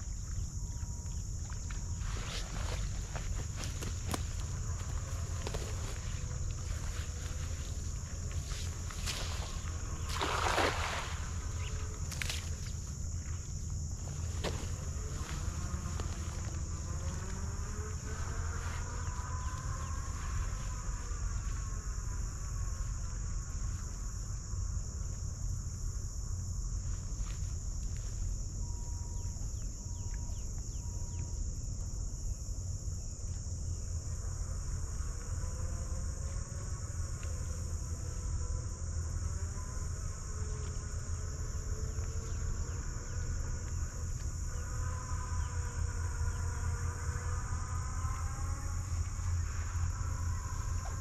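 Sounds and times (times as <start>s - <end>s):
insects droning: 0.0s - 51.0s.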